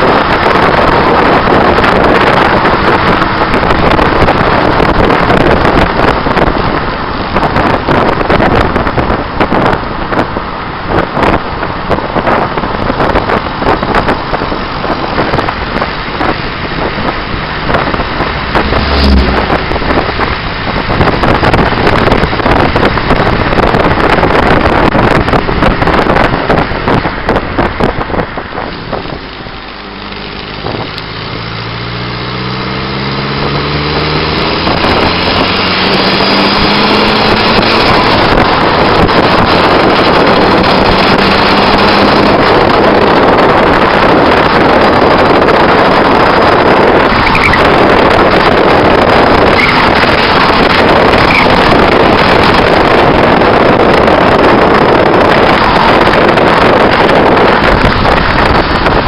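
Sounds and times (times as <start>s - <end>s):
car engine accelerating: 0.0s - 59.0s
road and tyre roar: 0.0s - 59.0s
wind buffeting camera: 0.0s - 59.0s.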